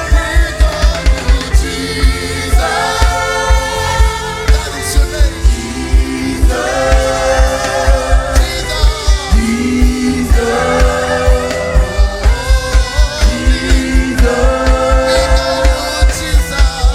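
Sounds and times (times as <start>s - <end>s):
choir singing with a band: 0.0s - 16.9s
steady bass drum beat: 0.0s - 16.9s.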